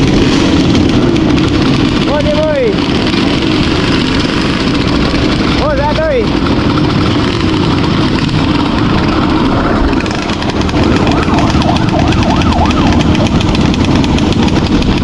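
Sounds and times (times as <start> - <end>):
motorcycle engine revving: 0.0 - 15.0
wind noise: 0.0 - 15.0.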